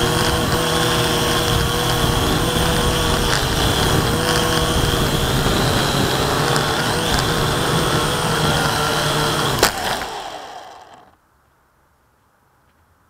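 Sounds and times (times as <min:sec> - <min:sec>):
drone motors whining: 0:00.0 - 0:11.2.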